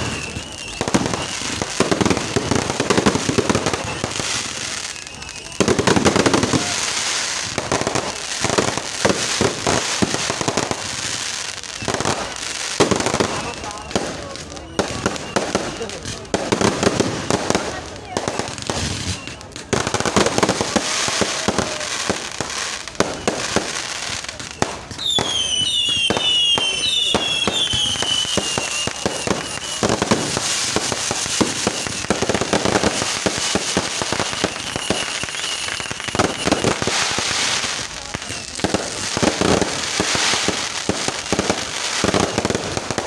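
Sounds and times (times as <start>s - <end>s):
firework whistles falling in pitch: 0.0s - 8.8s, 9.4s - 43.0s
fireworks crackling bangs: 0.0s - 43.0s.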